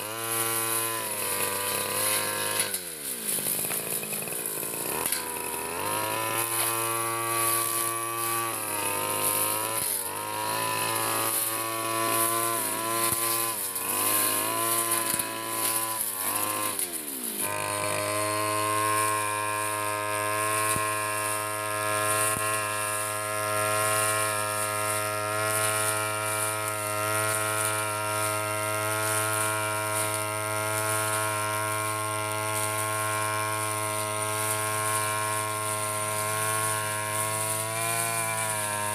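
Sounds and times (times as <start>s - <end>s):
brush cutter engine mowing grass: 0.0s - 38.9s.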